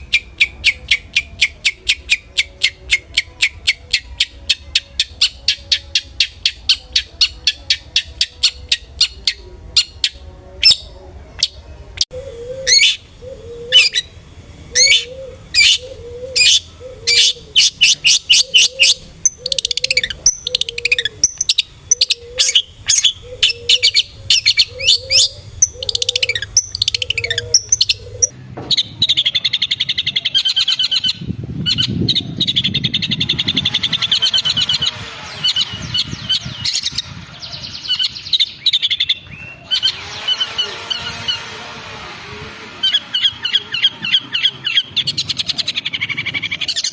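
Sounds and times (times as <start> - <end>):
bird calling: 0.0 - 46.9.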